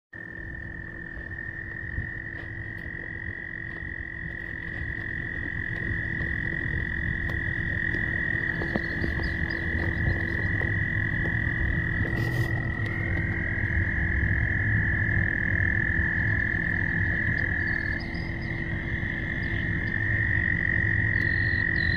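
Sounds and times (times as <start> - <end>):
frogs calling: 0.2 - 21.9
low rumble: 0.2 - 21.9.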